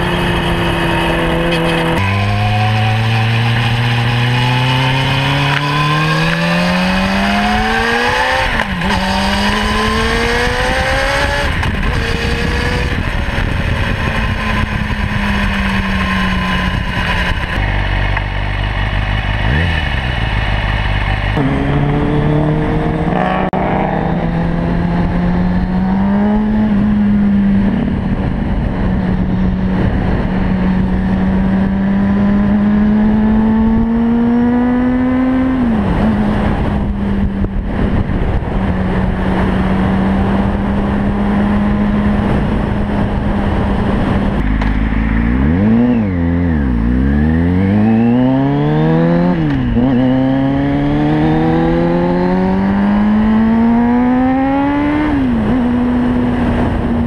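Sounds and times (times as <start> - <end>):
wind rushing over microphone: 0.0 - 17.8, 21.3 - 57.0
motorcycle engine revving: 0.0 - 57.0.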